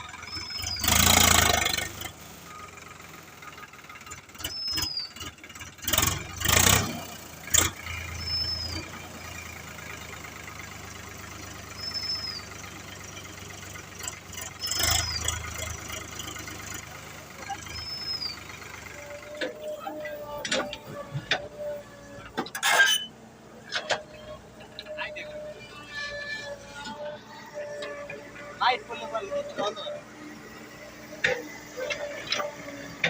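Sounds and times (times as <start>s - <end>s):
backhoe engine running: 0.0s - 33.0s.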